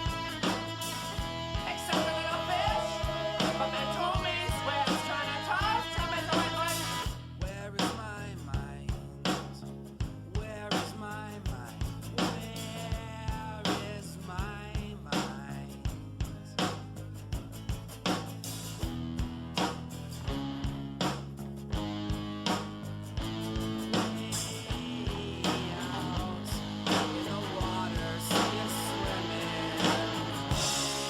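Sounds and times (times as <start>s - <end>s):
rock song with vocals: 0.0s - 16.8s, 21.7s - 31.0s.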